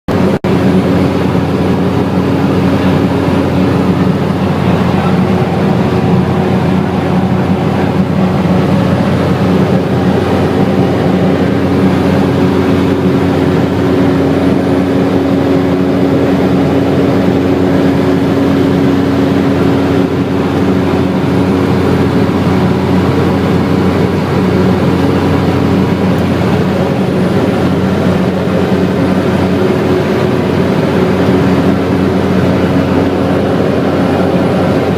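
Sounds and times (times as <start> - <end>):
turboprop engine droning: 0.1 - 34.9.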